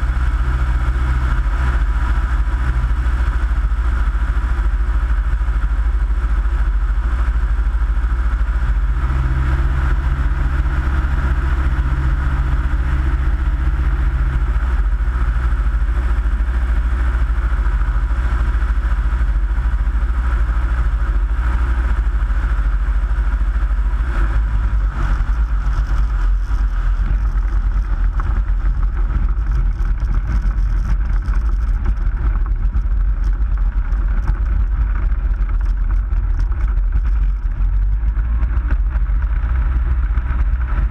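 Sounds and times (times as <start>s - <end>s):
light aircraft engine and propeller: 0.0s - 40.9s
wind rush on microphone: 0.0s - 40.9s
wheels rolling on grass: 7.3s - 40.9s.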